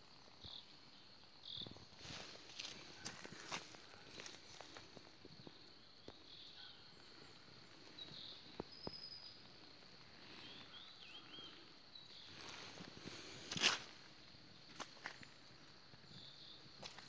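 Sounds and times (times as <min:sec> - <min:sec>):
faint chirps: 0:00.1 - 0:17.0.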